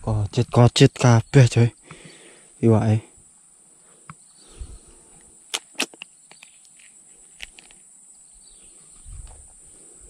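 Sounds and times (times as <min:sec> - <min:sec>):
steady high hiss: 0:00.0 - 0:10.0.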